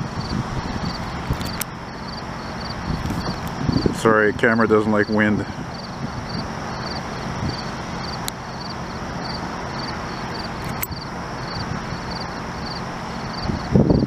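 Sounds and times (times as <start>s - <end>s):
wind rushing over microphone: 0.0s - 14.0s
insect chirping in high pulses: 0.2s - 3.9s, 5.0s - 14.0s.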